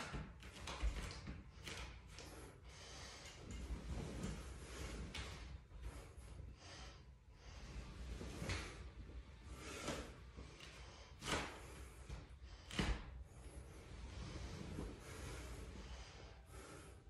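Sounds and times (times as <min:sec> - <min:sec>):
person breathing hard: 0:01.6 - 0:17.0.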